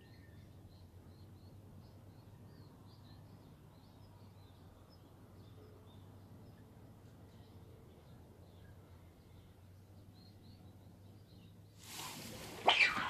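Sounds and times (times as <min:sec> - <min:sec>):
faint distant bird chirps: 0:00.0 - 0:13.0
low steady hum: 0:00.0 - 0:13.0.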